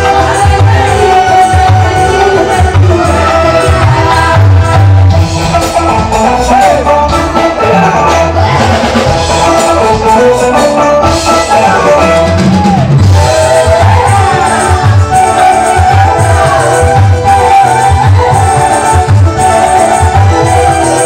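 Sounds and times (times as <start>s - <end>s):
drum kit beat: 0.0s - 21.0s
live band through speakers: 0.0s - 21.0s.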